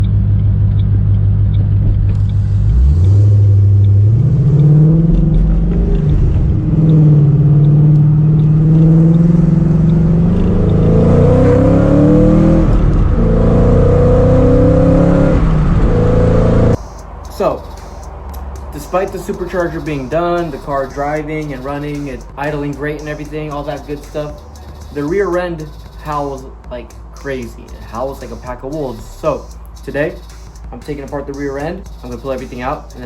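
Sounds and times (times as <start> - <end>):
car engine running under load: 0.0 - 33.0
rear axle howling: 0.0 - 33.0.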